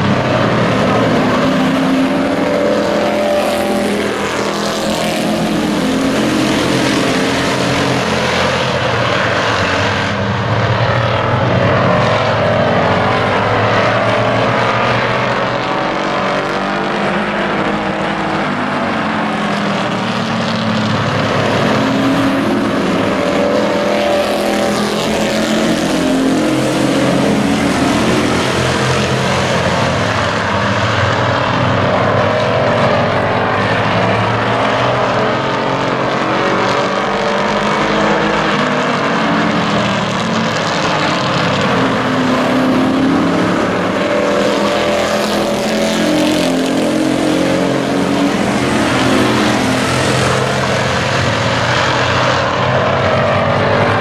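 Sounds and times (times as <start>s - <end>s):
racing truck engines: 0.0s - 54.0s.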